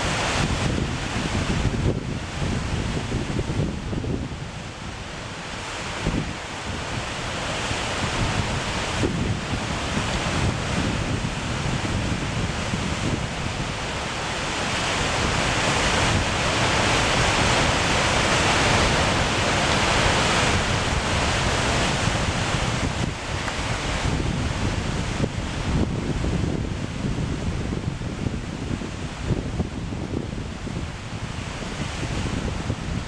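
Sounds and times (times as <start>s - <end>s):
whitewater rushing: 0.0s - 33.0s
wind buffeting microphone: 0.0s - 33.0s.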